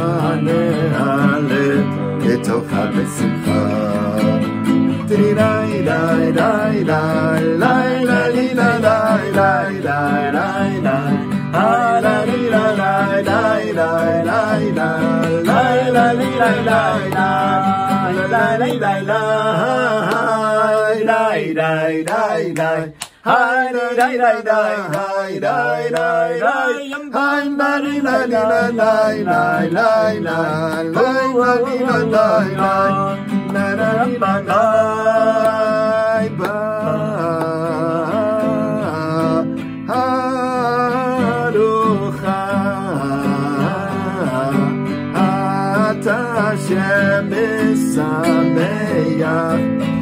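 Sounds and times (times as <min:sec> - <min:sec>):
acoustic guitar: 0:00.0 - 0:50.0
two men singing: 0:00.0 - 0:50.0.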